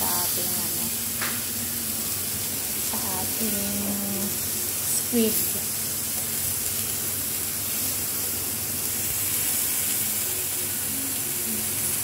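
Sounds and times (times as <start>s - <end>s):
food sizzling on grill pan: 0.0s - 12.0s.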